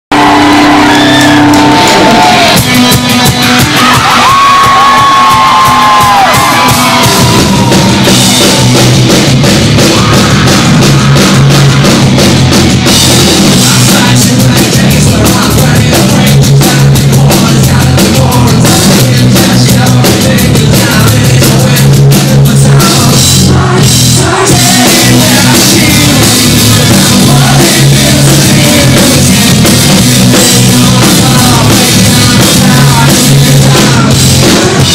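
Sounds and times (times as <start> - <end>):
bass guitar: 0.0 - 34.9
distorted electric guitar: 0.1 - 34.9
drums: 0.1 - 34.9
hard rock band playing live: 0.1 - 34.9
vocals: 0.2 - 8.7, 9.5 - 12.0, 12.9 - 34.9.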